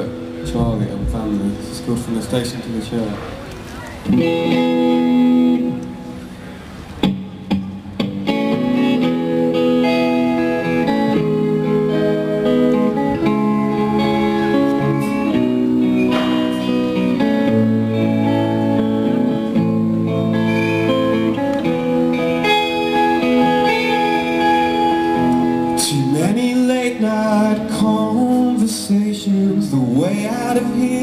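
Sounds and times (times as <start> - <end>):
live band guitar chords: 0.0 - 31.0.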